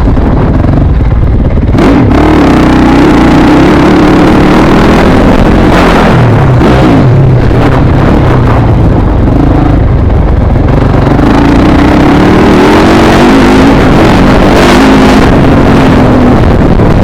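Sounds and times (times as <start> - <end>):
dirt bike engine running: 0.0 - 17.0
wind rumble on microphone: 0.0 - 17.0.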